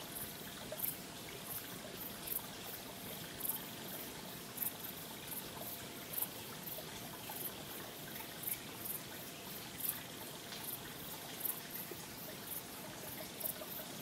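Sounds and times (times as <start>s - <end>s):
water trickling and babbling: 0.0s - 14.0s.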